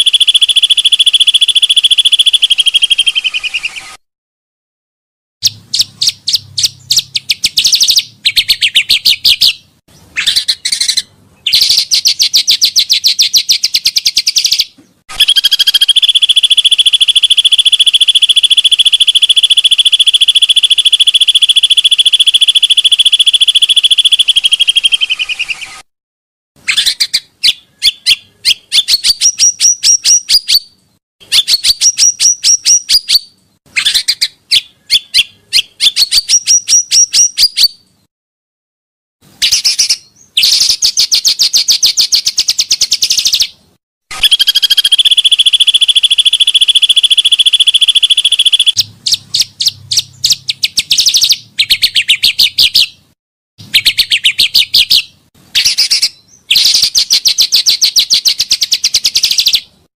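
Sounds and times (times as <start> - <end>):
bird song with trills: 0.0 - 4.0, 5.4 - 25.8, 26.6 - 38.0, 39.4 - 59.7.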